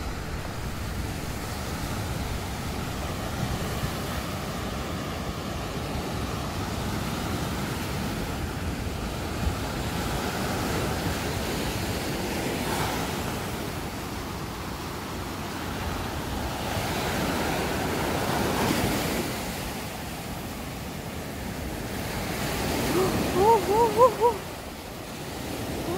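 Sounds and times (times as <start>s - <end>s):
waves breaking on a beach: 0.0s - 25.9s.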